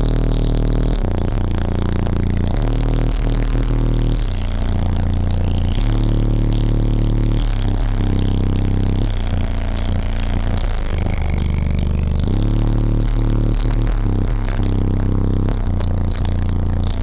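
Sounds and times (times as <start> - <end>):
deep bass music through subwoofers: 0.0 - 17.0.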